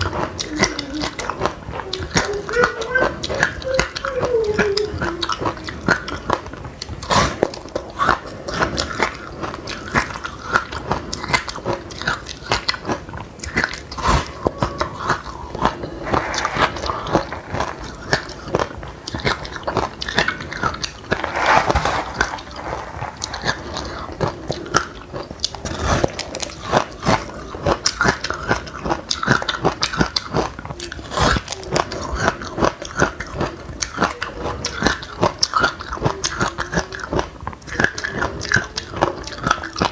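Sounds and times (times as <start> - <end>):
crunching and chewing seeds: 0.0 - 39.9.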